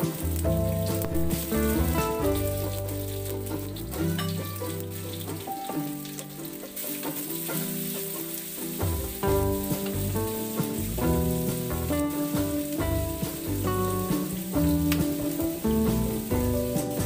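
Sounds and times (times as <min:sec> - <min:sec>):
background music: 0:00.0 - 0:17.0
vegetables sizzling in hot oil: 0:00.0 - 0:17.0.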